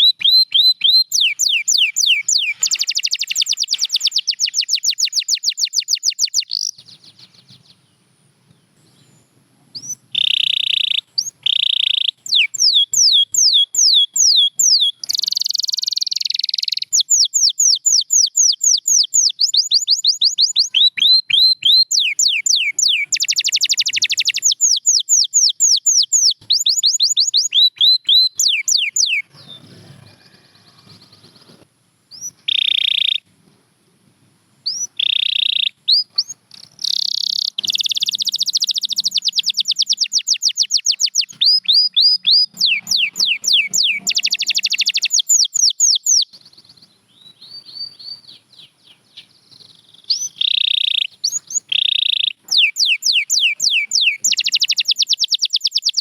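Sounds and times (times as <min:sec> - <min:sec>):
canary singing: 0:00.0 - 0:08.0, 0:08.8 - 0:33.3, 0:34.6 - 0:56.0.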